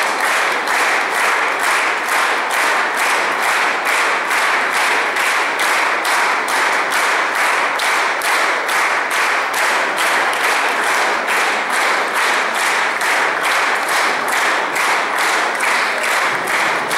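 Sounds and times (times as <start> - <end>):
audience clapping in rhythm: 0.0 - 16.9.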